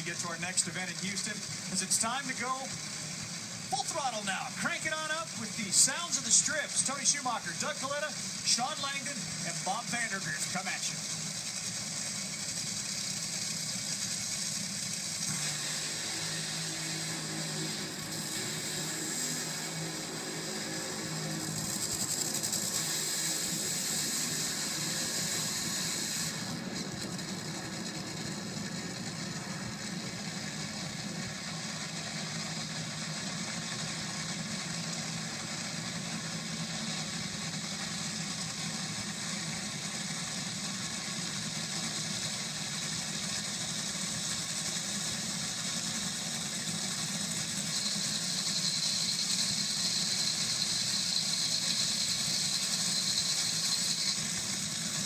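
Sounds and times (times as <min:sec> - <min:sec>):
dragster engines idling: 0:00.0 - 0:55.0.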